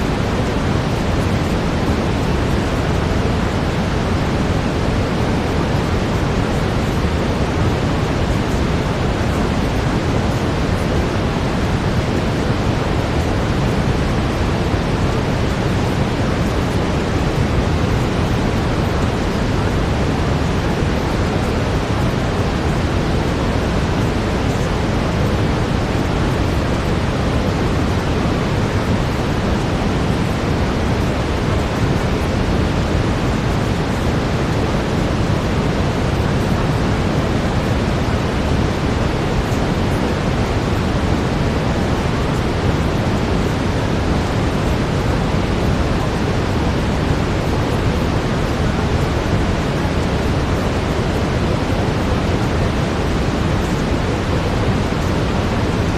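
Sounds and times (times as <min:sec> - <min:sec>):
brown noise hiss: 0:00.0 - 0:55.9.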